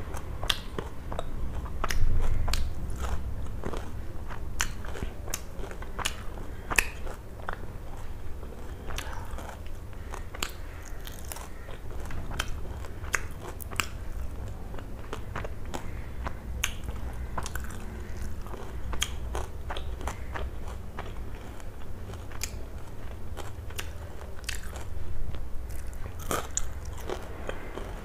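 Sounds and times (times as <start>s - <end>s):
crunchy chewing: 0.0s - 28.0s
low steady hum: 0.0s - 28.0s.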